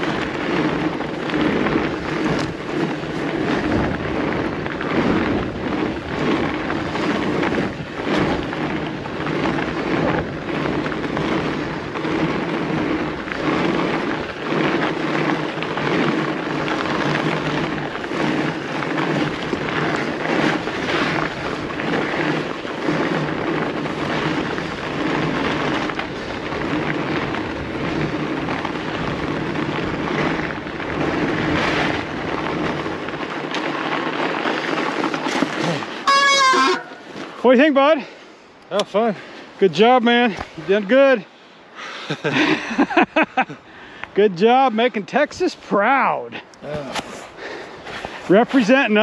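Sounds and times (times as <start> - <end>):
bike rattling: 0.0 - 49.0
tyres crunching on snow: 0.0 - 49.0.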